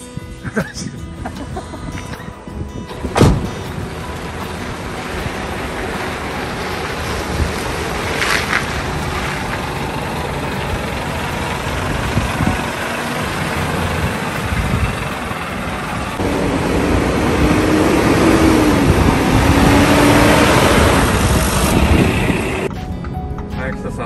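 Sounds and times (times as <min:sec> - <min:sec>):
truck diesel engine driving by: 0:02.8 - 0:23.0.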